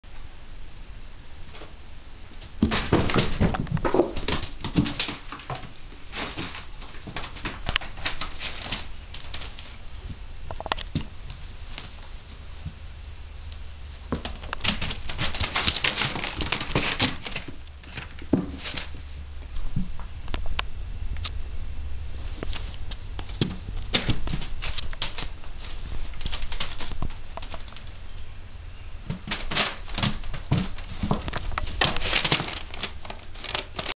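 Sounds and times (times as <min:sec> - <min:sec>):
kittens scuffling and thumping: 0:01.5 - 0:20.7, 0:22.0 - 0:28.2, 0:29.0 - 0:33.9.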